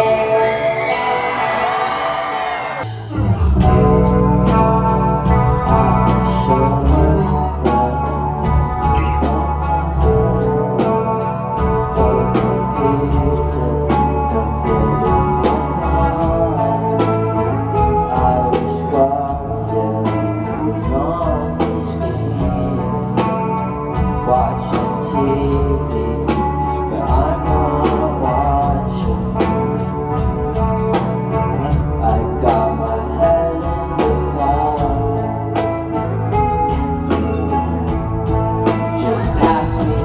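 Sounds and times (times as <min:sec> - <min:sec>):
live band music: 0:00.0 - 0:40.0
person singing: 0:00.0 - 0:40.0.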